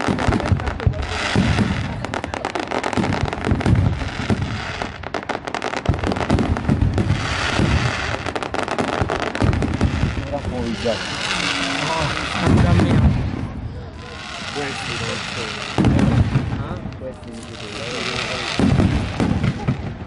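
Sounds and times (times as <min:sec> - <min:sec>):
fireworks crackling pops: 0:00.0 - 0:20.0.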